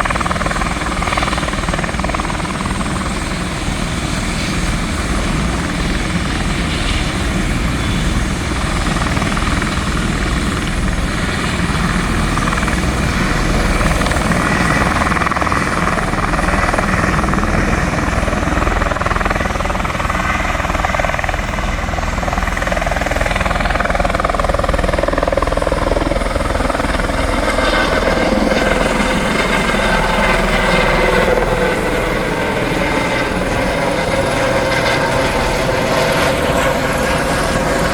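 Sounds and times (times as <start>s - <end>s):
helicopter engine whine: 0.0s - 37.9s
helicopter rotor beat: 0.0s - 37.9s.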